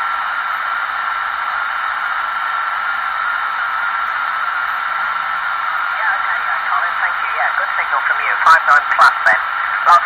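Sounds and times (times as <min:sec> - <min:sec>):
radio static hiss: 0:00.8 - 0:10.0.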